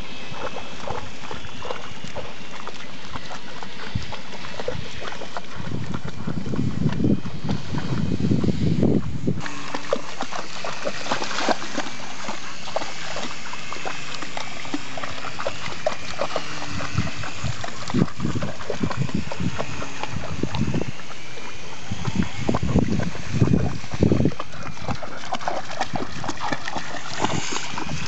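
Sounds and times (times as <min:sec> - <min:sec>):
dog splashing in water: 0:00.2 - 0:08.0, 0:09.4 - 0:28.0.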